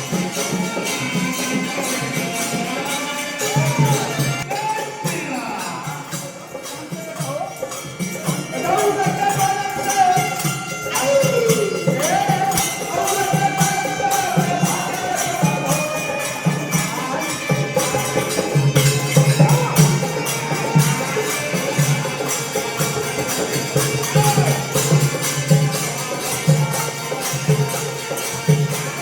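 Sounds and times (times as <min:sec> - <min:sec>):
tambourine jingling beat: 0:00.0 - 0:29.0.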